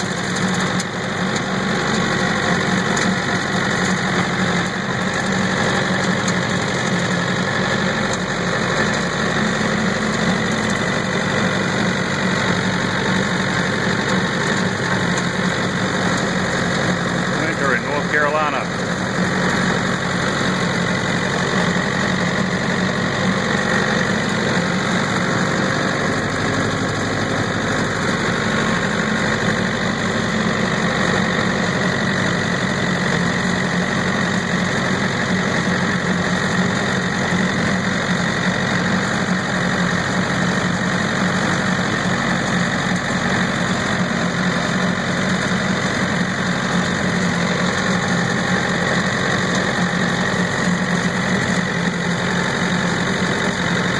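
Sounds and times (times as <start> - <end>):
tractor engine with rotary cutter: 0.0 - 53.9.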